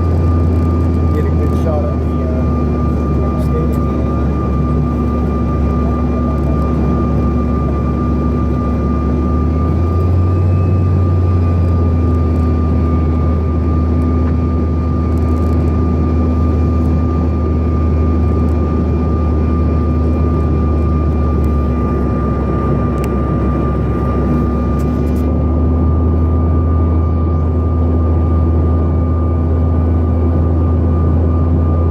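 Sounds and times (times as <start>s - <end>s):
jet engines whining in cabin: 0.0s - 31.9s.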